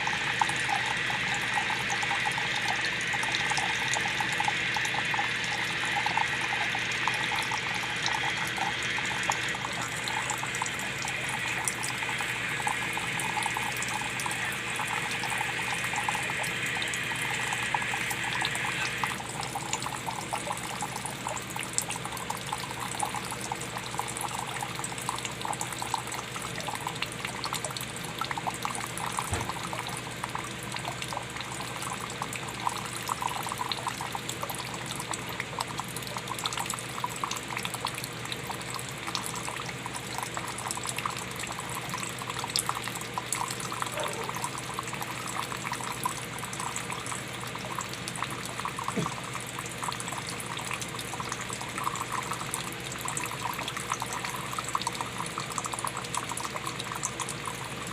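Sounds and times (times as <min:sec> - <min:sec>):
water pouring into water: 0:00.0 - 0:57.9.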